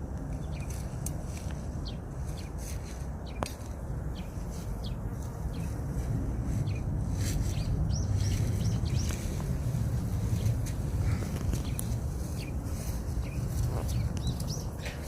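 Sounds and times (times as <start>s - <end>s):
low background rumble: 0.0s - 15.0s
small birds chirping: 0.2s - 15.0s.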